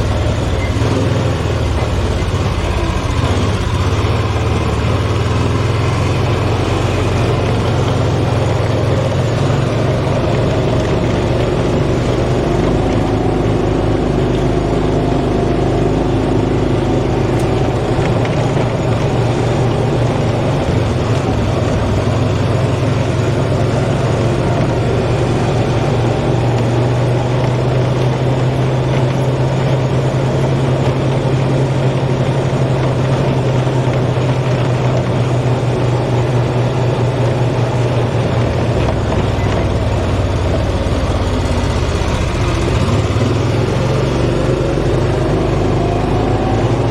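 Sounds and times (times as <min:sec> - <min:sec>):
heavy harvester engine running: 0:00.0 - 0:46.9.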